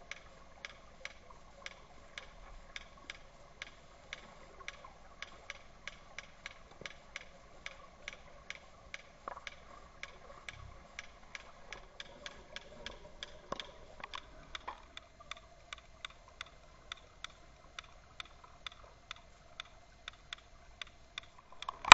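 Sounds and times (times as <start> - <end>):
faint steady hum: 0.0 - 21.9
sharp underwater clicks: 0.0 - 21.9.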